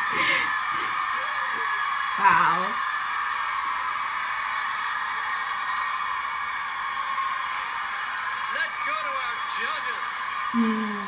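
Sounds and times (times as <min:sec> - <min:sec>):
audience applauding and cheering: 0:00.0 - 0:11.0.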